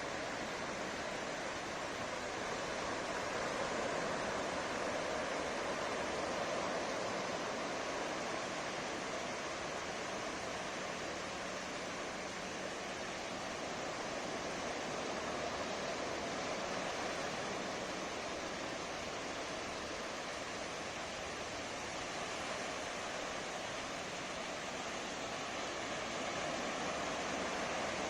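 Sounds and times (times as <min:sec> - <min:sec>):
ocean surf washing onto shore: 0:00.0 - 0:28.0.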